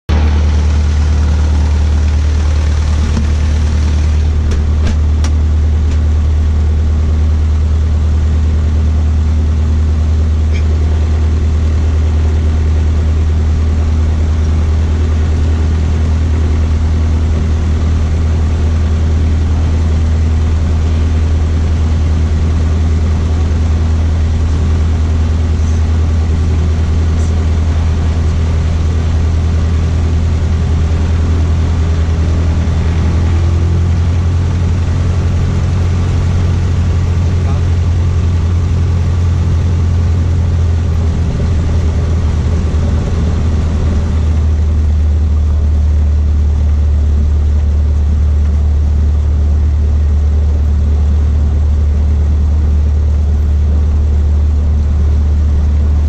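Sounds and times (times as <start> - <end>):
propeller plane engine drone: 0.1 - 56.0.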